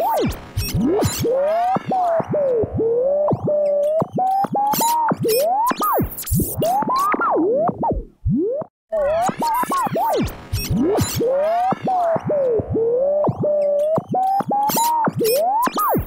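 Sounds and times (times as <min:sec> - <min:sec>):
radio tuning whistles: 0:00.0 - 0:16.0.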